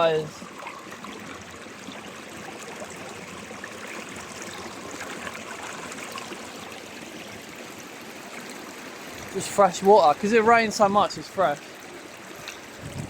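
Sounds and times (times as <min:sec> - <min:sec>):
stream babbling: 0:00.0 - 0:13.0.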